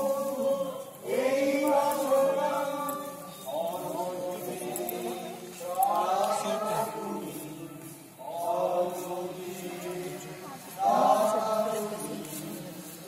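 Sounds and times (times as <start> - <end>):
group of voices chanting: 0.0 - 12.8.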